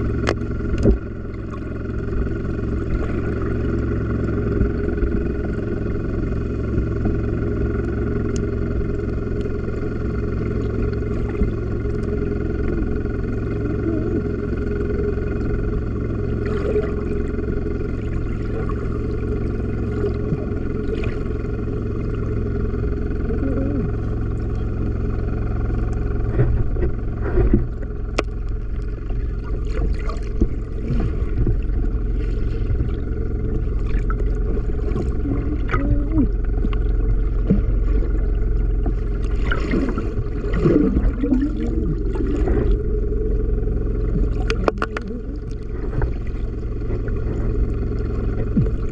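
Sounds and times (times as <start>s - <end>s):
motor boat engine droning: 0.0s - 48.9s.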